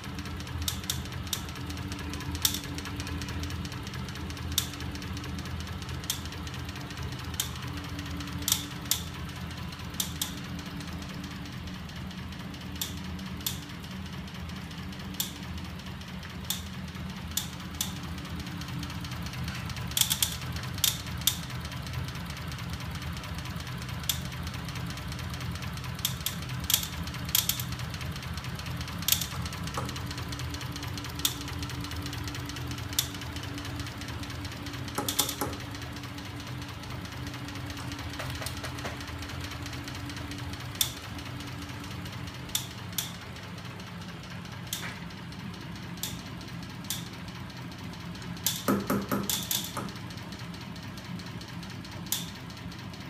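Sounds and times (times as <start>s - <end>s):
linkages clicking and knocking: 0.1s - 53.0s.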